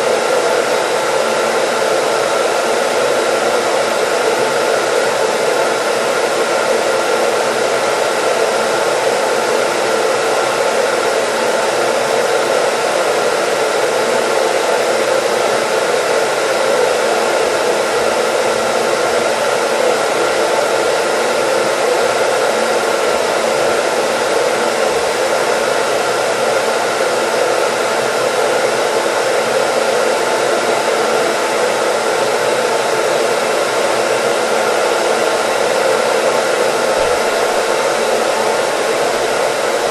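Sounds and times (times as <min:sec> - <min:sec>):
electric dryer running: 0:00.0 - 0:39.9.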